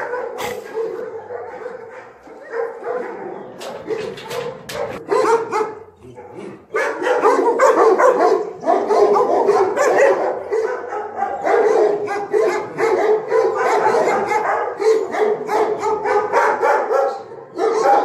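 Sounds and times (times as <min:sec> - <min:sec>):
many dogs barking: 0:00.0 - 0:18.0.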